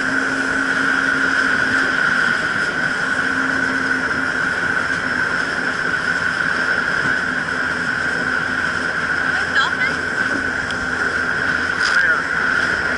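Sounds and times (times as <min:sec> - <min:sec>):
jet ski engine whine: 0:00.0 - 0:12.9
water and wind hiss: 0:00.0 - 0:12.9.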